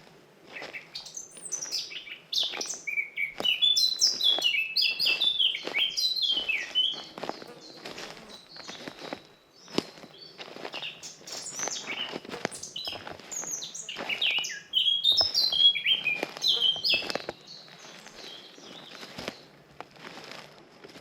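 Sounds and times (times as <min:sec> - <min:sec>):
songbirds chirping: 0:00.0 - 0:19.9
footsteps on a forest path: 0:00.0 - 0:21.0.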